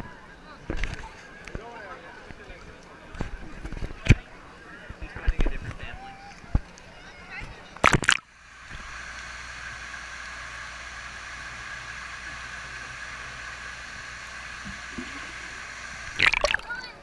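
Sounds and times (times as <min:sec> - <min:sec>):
flowing water: 0:00.7 - 0:17.0.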